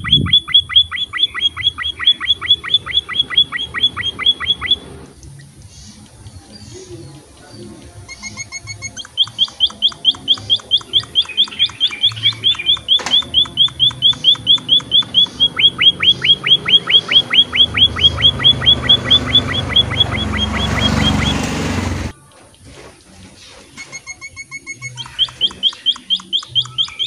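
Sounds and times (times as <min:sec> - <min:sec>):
bird chirping rapidly: 0:00.0 - 0:22.1, 0:23.9 - 0:27.0.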